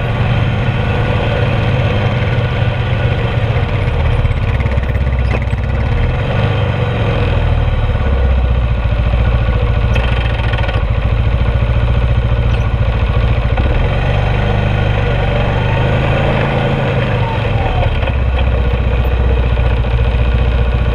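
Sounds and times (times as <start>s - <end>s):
atv engine running: 0.0s - 20.9s.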